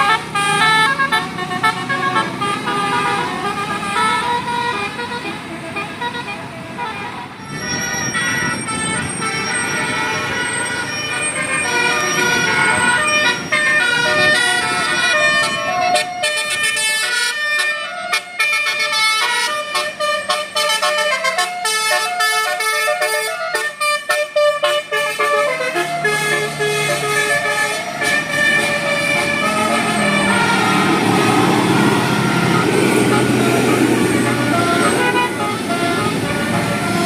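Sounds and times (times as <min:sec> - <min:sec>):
bus engine running: 0:00.0 - 0:37.0
multi-tone air horns playing a tune: 0:00.0 - 0:37.0.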